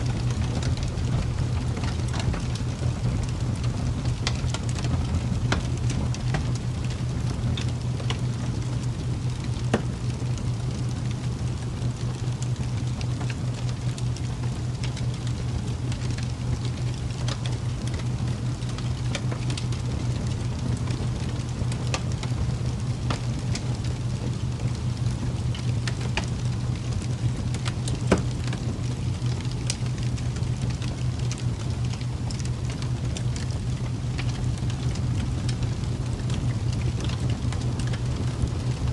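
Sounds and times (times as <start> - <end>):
constant low rumbling noise: 0.0 - 38.9
sharp crackles and ticks: 0.0 - 38.9.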